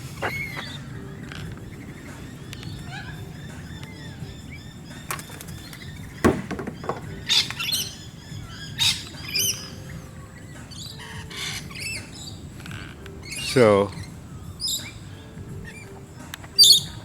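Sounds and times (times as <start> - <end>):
loud harsh bird calls: 0.0 - 17.0
small birds chirping: 0.0 - 17.0.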